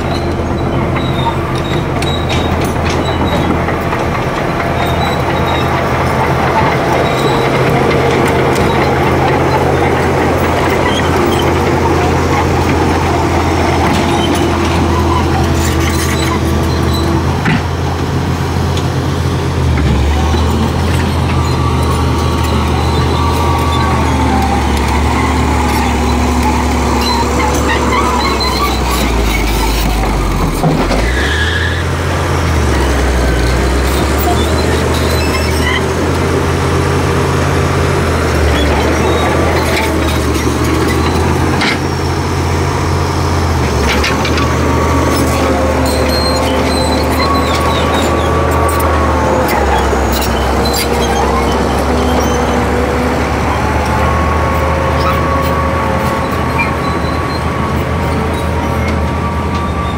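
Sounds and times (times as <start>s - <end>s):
diesel engine running: 0.0s - 59.9s
metal tracks and bucket clanking: 0.0s - 59.9s.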